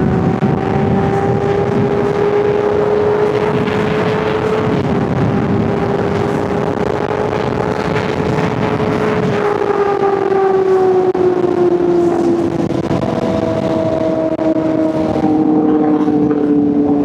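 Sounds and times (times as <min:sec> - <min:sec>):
motorcycle engine running high: 0:00.0 - 0:17.0.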